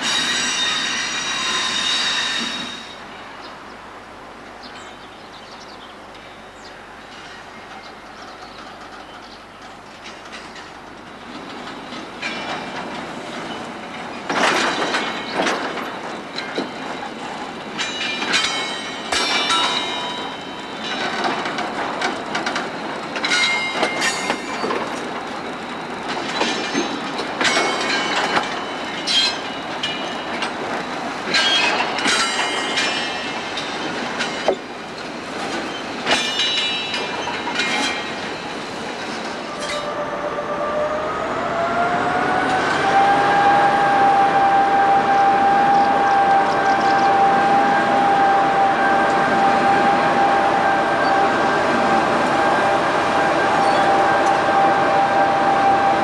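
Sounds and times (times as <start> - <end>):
diesel locomotive engine: 0.0 - 56.0.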